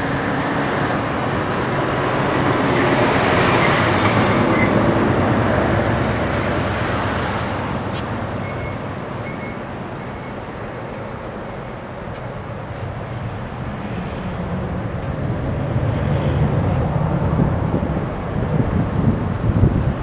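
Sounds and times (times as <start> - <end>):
road traffic rushing: 0.0 - 20.0.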